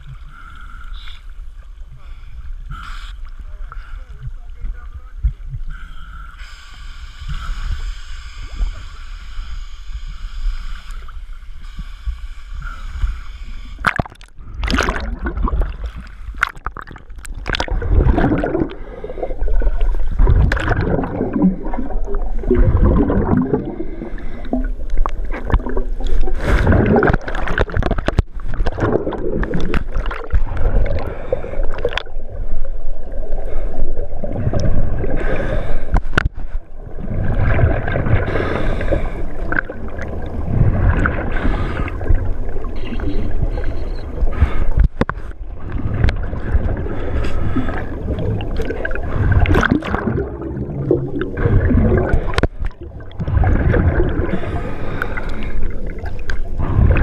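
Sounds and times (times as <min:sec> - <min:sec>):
water gurgling and sloshing: 0:00.0 - 0:57.0
underwater scuba exhaust bubbles: 0:06.5 - 0:57.0.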